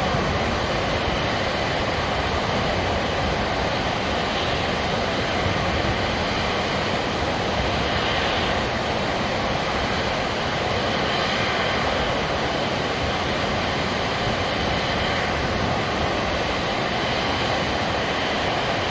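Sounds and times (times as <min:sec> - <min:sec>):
water rushing down dam: 0:00.0 - 0:18.9.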